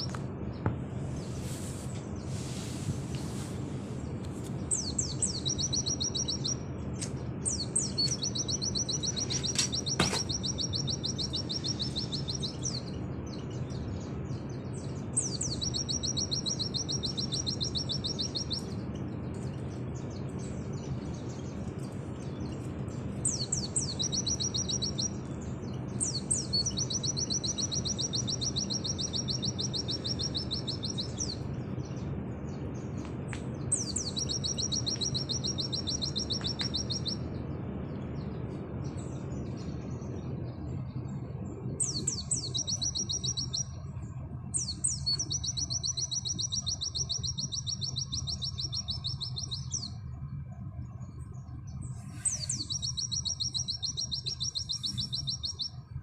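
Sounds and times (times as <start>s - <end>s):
bird chattering song: 0.0s - 56.0s
steady low hum: 0.0s - 56.0s.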